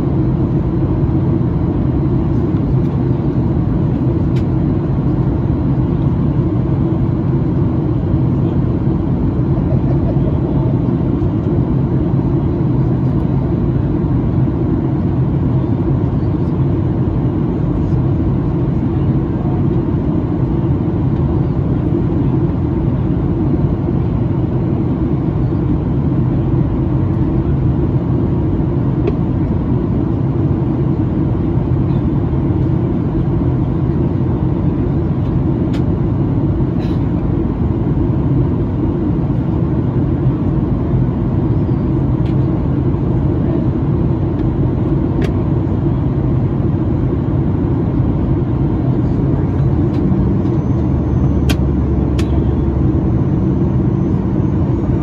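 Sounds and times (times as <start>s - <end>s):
airplane cabin engine rush: 0.0s - 55.0s.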